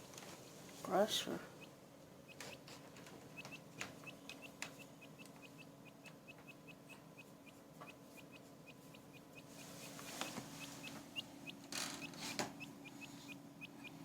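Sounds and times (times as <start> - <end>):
quail chick peeping: 0.9 - 14.0.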